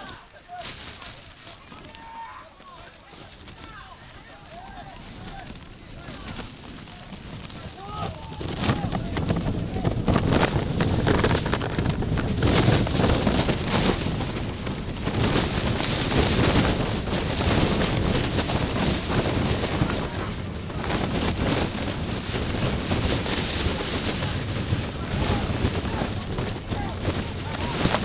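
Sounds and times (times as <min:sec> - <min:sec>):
wind buffeting microphone: 0:02.8 - 0:28.0.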